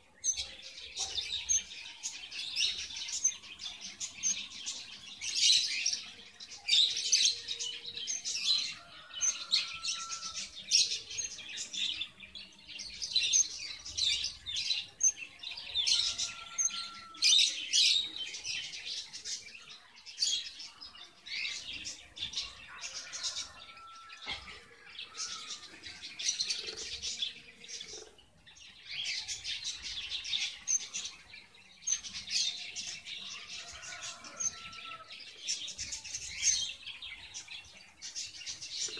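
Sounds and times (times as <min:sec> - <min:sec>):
finches chirping and twittering: 0:00.0 - 0:38.9.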